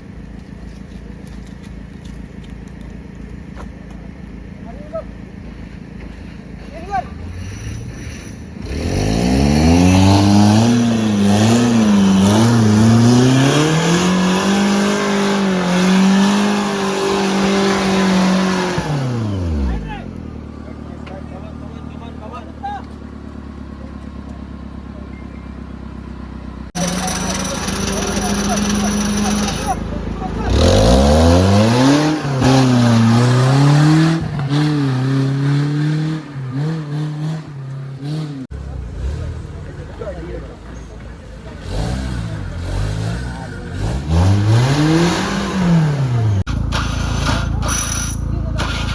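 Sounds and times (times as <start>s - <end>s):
off-road vehicle engine revving: 0.0s - 48.9s.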